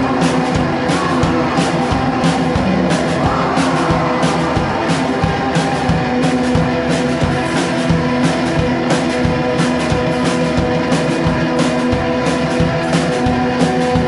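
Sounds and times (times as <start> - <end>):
drum-kit beat: 0.0 - 14.0.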